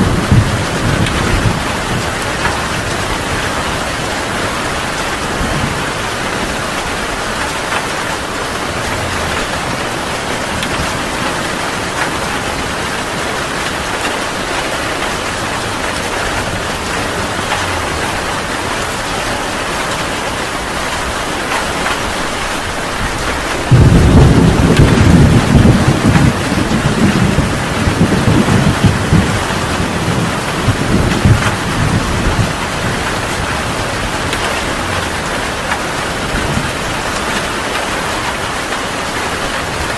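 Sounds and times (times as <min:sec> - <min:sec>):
heavy rain falling: 0:00.0 - 0:39.9
thunder clap rumbling: 0:00.0 - 0:39.9.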